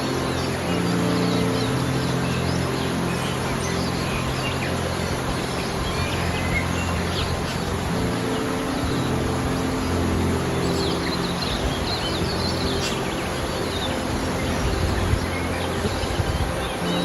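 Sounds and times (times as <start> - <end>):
mountain stream rushing: 0.0 - 17.0
soft music of held notes: 0.0 - 17.0.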